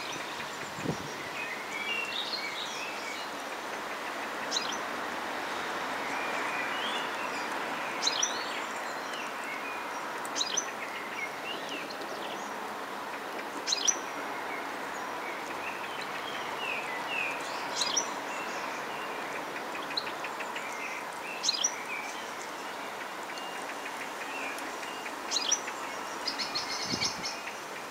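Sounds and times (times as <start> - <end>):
outdoor background hiss: 0.0 - 27.9
small birds chirping: 0.0 - 27.9.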